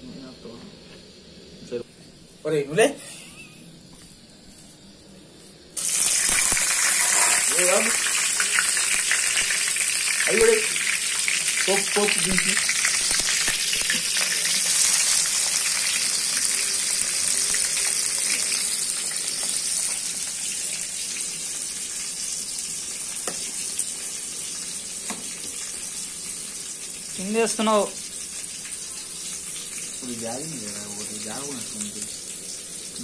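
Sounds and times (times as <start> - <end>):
oil sizzling with frying vegetables: 0.1 - 33.0.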